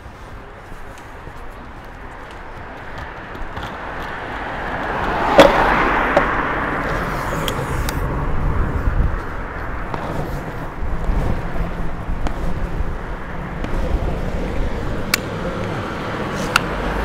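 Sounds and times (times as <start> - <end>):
longboard wheels rolling on asphalt: 0.0 - 17.0.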